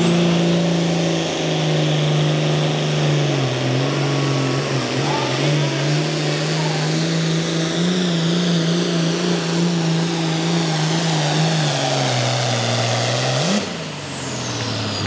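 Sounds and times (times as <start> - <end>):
diesel tractor engine under load: 0.0 - 15.0.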